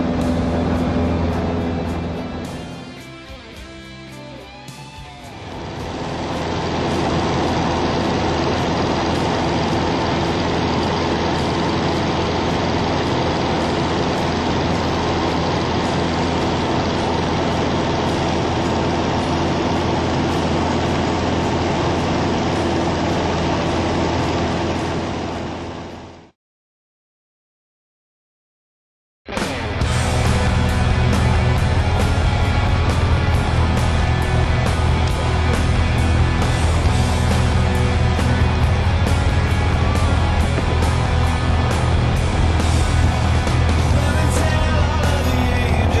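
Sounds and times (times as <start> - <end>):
airplane engine and propeller drone: 0.0 - 26.4, 29.3 - 46.0.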